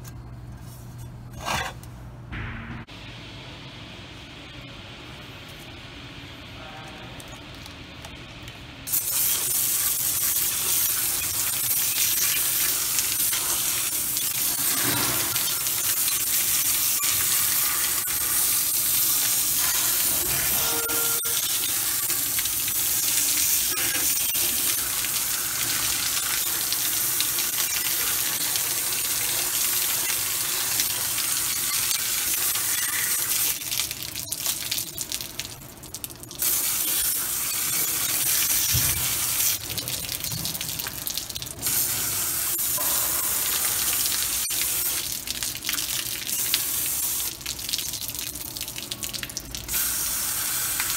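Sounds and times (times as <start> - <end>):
liquid pouring down: 8.9 - 50.9.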